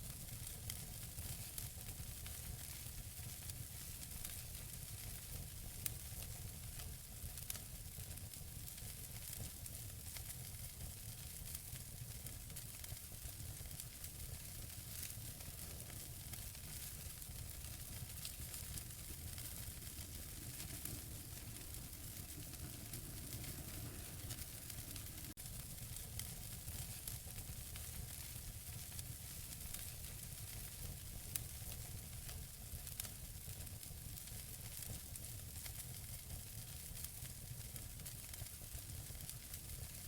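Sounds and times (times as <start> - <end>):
wood fire crackling and popping: 0.2 - 40.0.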